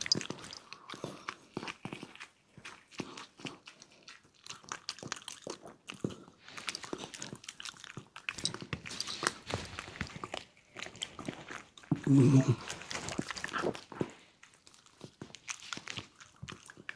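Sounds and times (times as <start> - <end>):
dog crunching and chewing food: 0.0 - 16.9.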